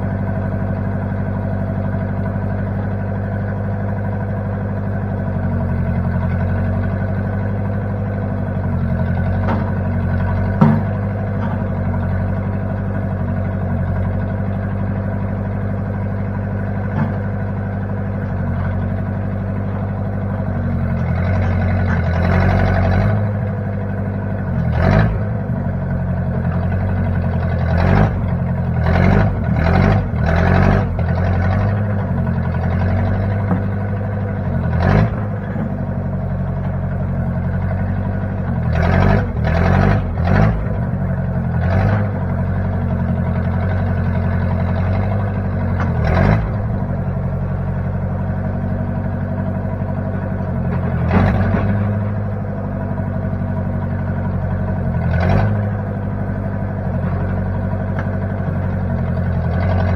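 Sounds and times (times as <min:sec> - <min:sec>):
backhoe engine running: 0:00.0 - 0:59.9
engine knocks: 0:00.1 - 0:59.9.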